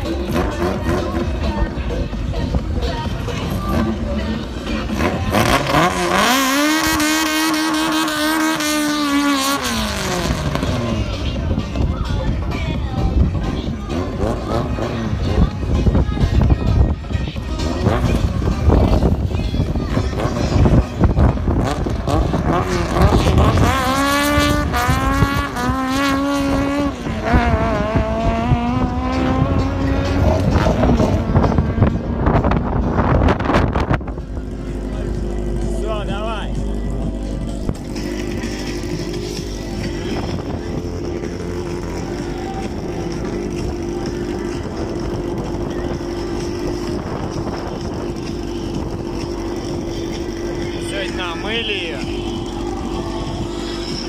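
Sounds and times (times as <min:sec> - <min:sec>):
car engine revving at high revs: 0:00.0 - 0:11.9, 0:13.4 - 0:16.1, 0:17.4 - 0:54.0.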